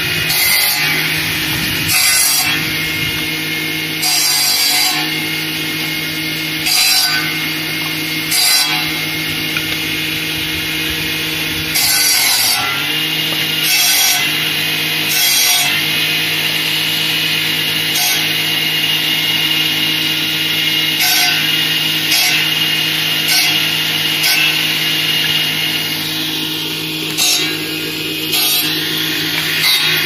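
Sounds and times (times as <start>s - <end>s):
circular saw running: 0.0s - 30.0s
saw cutting branches: 0.0s - 30.0s.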